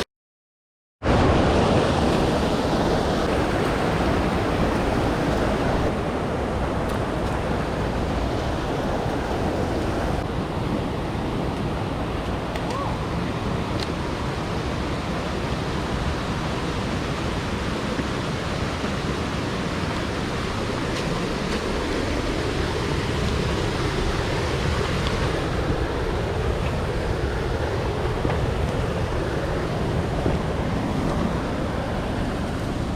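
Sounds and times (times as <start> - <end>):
mountain stream rushing: 1.0 - 32.9.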